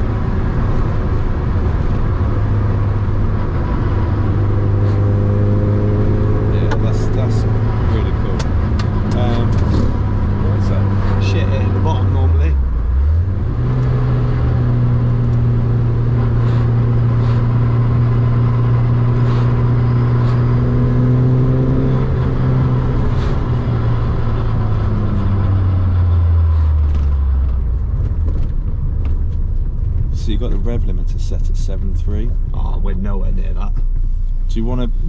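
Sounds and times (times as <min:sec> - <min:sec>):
car engine running under load: 0:00.0 - 0:35.0
low rumble: 0:00.0 - 0:35.0.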